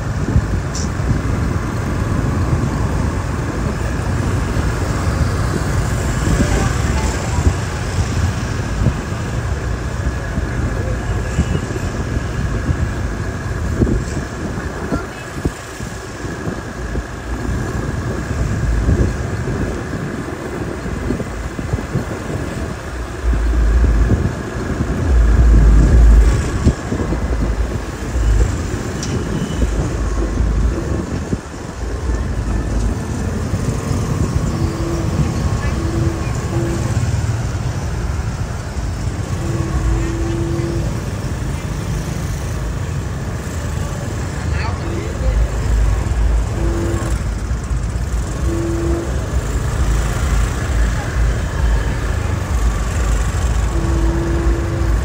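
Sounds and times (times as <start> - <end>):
heavy low rumble: 0.0 - 55.0
vehicles passing: 0.0 - 55.0.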